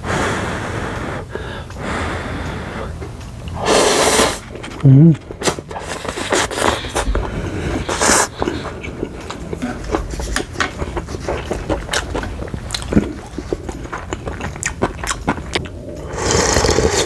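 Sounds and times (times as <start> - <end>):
person chewing noodles: 0.4 - 17.0.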